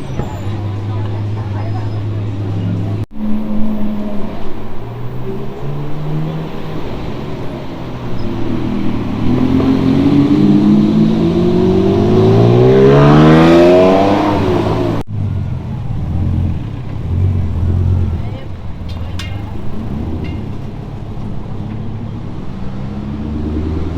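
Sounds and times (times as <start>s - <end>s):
car engine accelerating hard: 0.0s - 23.9s
steady lower engine sound: 0.0s - 23.9s.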